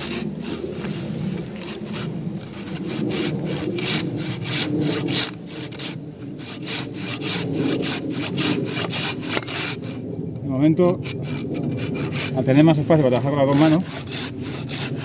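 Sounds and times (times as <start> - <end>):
hand saw rasping through log: 0.0 - 10.0, 10.8 - 15.0.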